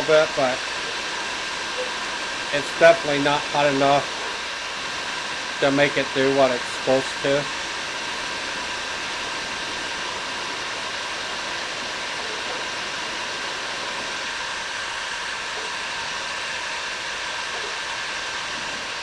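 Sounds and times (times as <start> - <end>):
heat gun fan hissing: 0.0 - 19.0.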